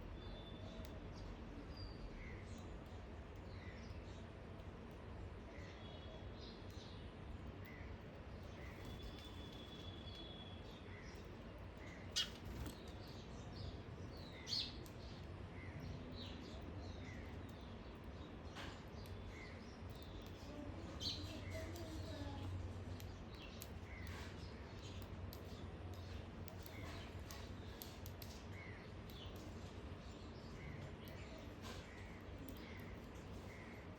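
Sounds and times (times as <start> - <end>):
low background hum: 0.0 - 33.9
small birds chirping: 0.0 - 33.9.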